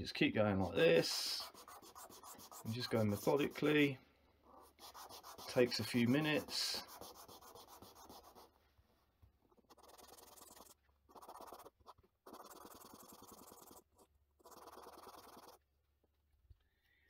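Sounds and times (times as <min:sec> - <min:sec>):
rasping on sandpaper: 0:00.4 - 0:08.5, 0:09.6 - 0:15.6.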